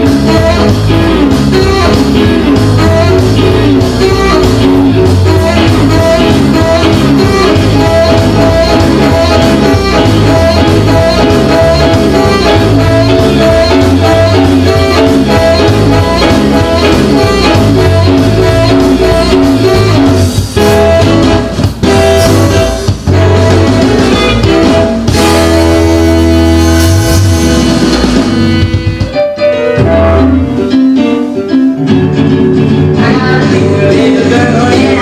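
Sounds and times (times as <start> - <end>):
rock and roll band music: 0.0 - 35.0.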